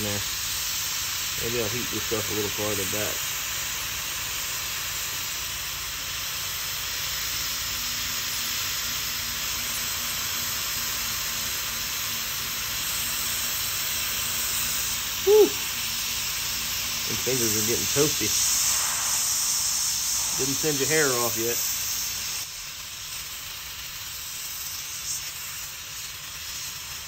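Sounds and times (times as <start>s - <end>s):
hot air gun hissing: 0.0s - 27.0s.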